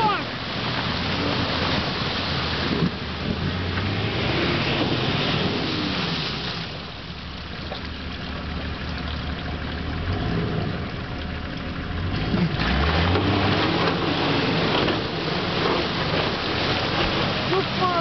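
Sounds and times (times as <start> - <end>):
diesel engine under load: 0.0 - 18.0
water splashing around tyres: 0.0 - 18.0.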